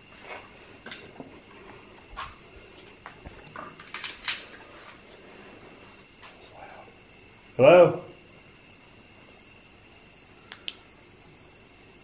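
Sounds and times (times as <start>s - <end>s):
crickets trilling: 0.0s - 12.0s
frogs chirping: 0.0s - 12.0s.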